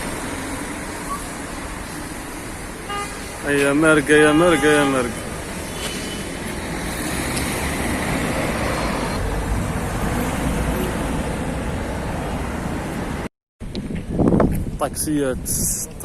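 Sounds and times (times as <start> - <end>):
passing cars: 0.0 - 14.8.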